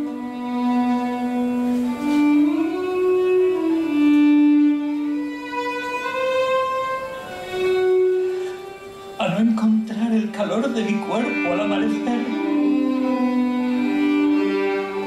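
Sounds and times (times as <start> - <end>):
solo violin slow melody: 0.0 - 15.0.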